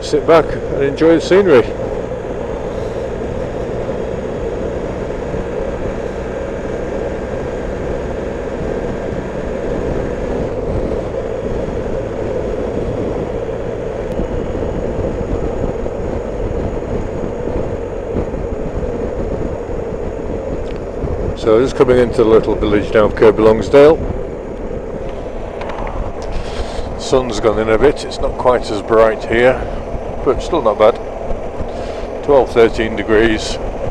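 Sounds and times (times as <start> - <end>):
motorcycle engine cruising: 0.0 - 33.9
wind rush on microphone: 0.0 - 33.9.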